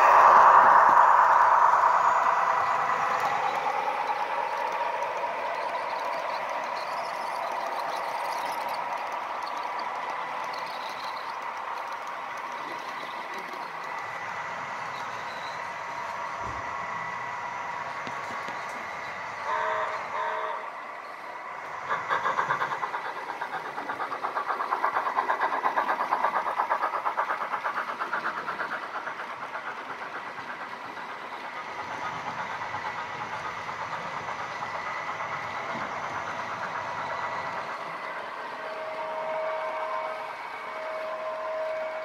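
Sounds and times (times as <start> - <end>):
model train wheels clattering: 0.0 - 16.7, 17.7 - 42.0.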